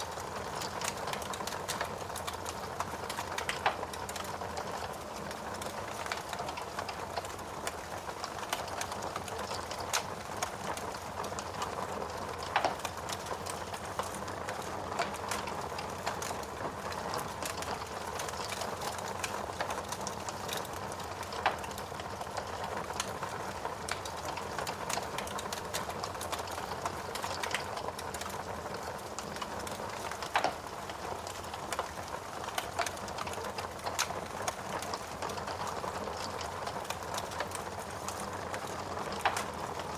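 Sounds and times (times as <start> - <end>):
rain falling: 0.0 - 39.9
wood fire crackling and popping: 0.0 - 39.9.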